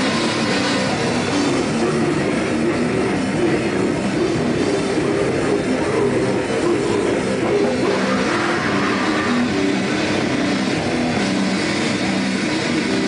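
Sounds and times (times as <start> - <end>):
bass guitar: 0.0 - 13.0
drum kit: 0.0 - 13.0
electric guitars: 0.0 - 13.0.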